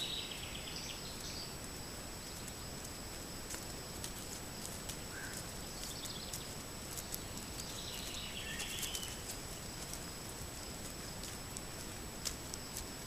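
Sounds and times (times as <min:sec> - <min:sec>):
microphone hiss: 0:00.0 - 0:13.0
deer hooves stepping through grass: 0:02.4 - 0:13.0.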